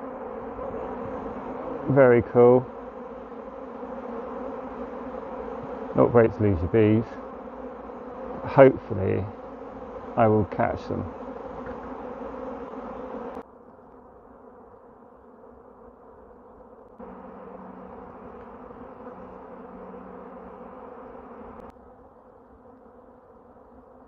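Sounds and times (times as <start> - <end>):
bee swarm buzzing: 0.0 - 24.0.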